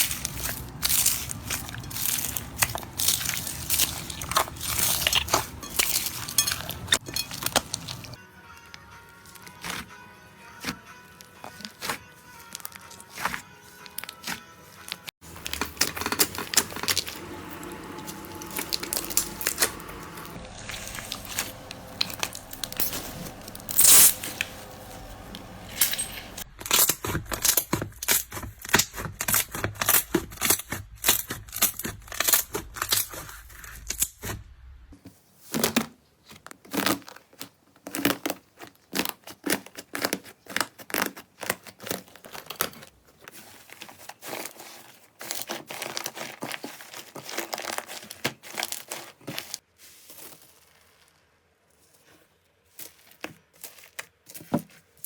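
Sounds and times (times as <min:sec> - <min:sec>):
slime crackling and squelching: 0:00.0 - 0:10.0, 0:10.6 - 0:34.4, 0:35.4 - 0:55.0.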